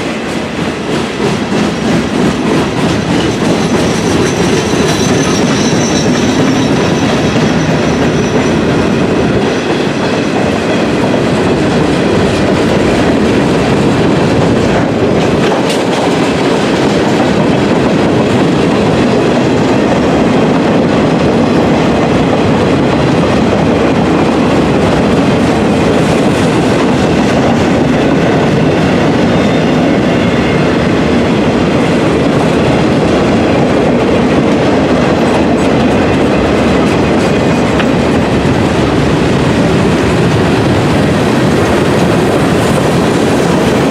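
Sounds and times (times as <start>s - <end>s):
freight train rumbling past: 0.0s - 43.9s.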